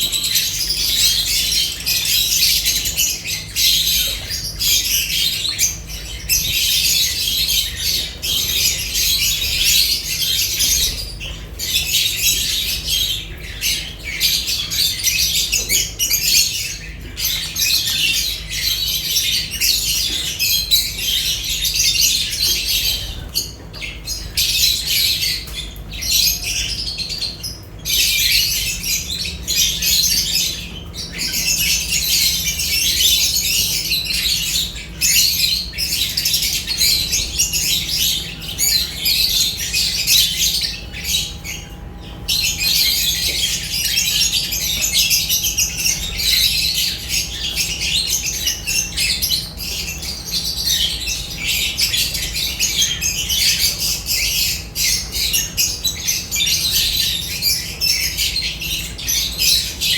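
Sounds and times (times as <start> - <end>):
lovebirds chattering and squawking: 0.0 - 59.9.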